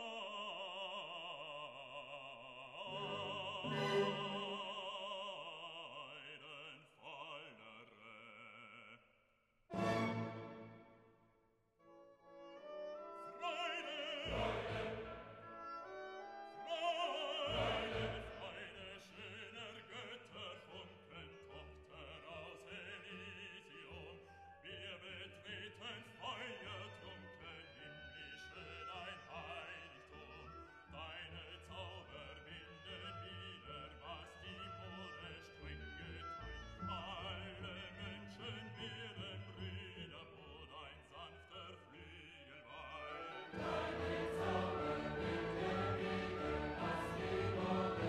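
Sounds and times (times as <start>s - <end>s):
operatic voice singing: 0.0s - 9.1s, 13.2s - 15.6s, 16.6s - 48.0s
orchestra: 2.8s - 8.0s, 9.7s - 11.2s, 11.8s - 48.0s.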